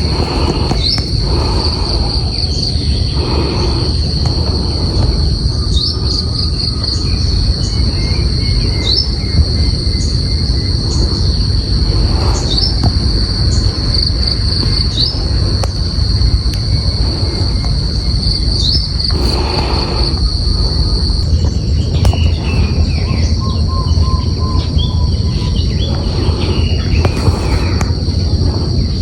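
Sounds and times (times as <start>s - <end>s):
insects trilling: 0.0s - 29.0s
low rumble: 0.0s - 29.0s.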